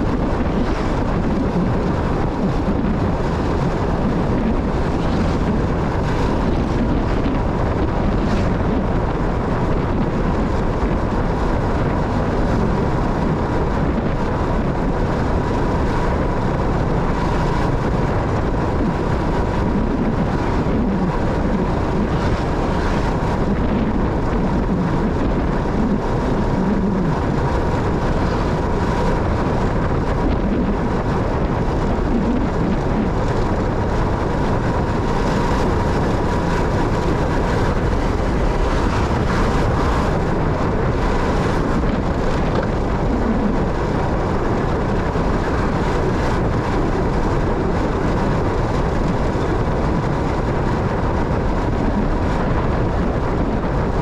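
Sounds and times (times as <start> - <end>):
motorcycle engine and road noise: 0.0 - 54.0.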